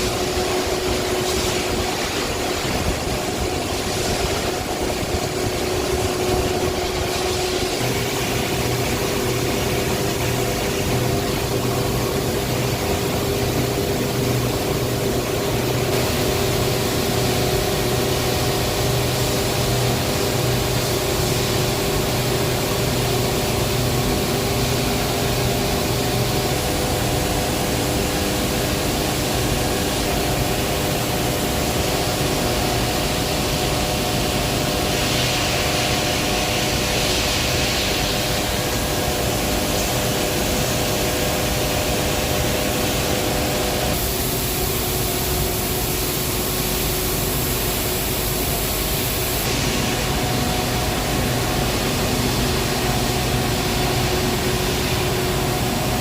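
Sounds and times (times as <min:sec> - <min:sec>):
heavy industrial machinery humming: 0:00.0 - 0:56.0.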